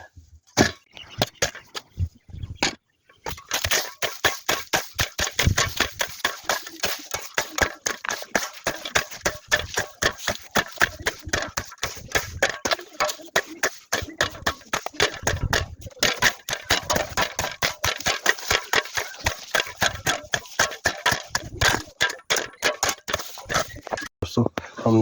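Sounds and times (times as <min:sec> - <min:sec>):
tool chopping grass: 0:03.3 - 0:24.1.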